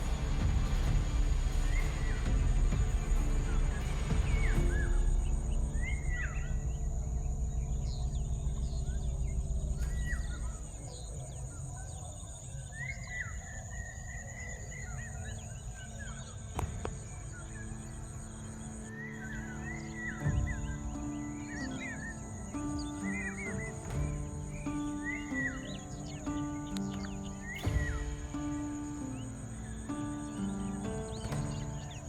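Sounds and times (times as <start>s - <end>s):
background music: 0.0s - 12.9s, 14.7s - 32.0s
birds chirping: 0.0s - 32.0s.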